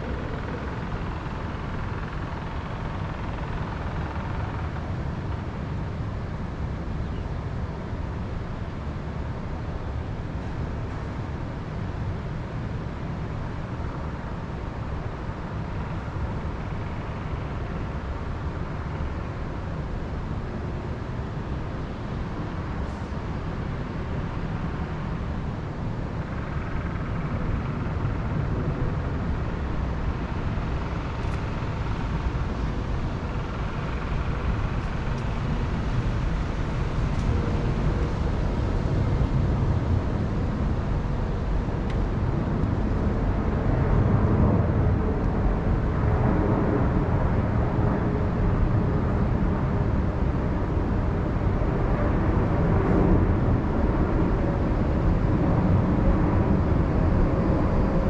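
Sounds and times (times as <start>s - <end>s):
wind rushing through forest: 8.2s - 58.0s.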